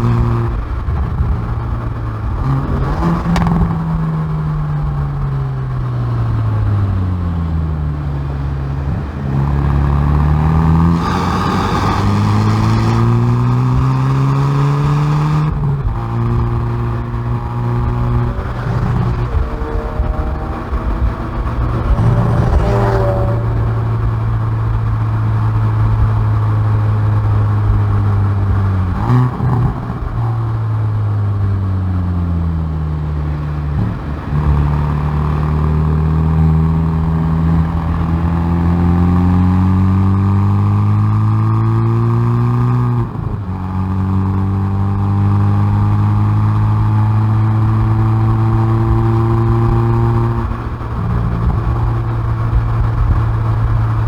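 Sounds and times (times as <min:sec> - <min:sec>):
car engine and exhaust revving: 0:00.0 - 0:54.0.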